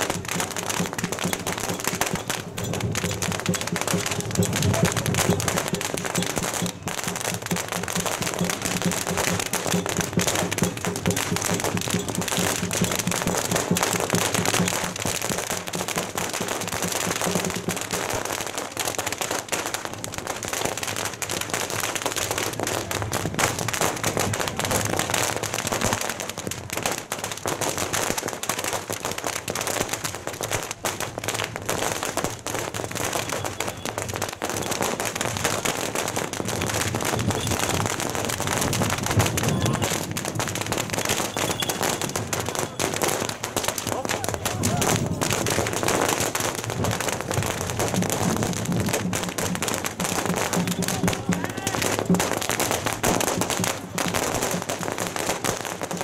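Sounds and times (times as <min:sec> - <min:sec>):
firecrackers exploding: 0:00.0 - 0:56.0.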